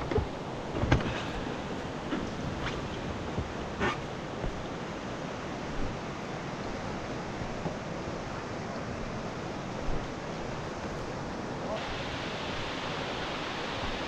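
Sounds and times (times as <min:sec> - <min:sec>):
water splashes: 0:00.0 - 0:14.0
whitewater river rushing: 0:00.0 - 0:14.0.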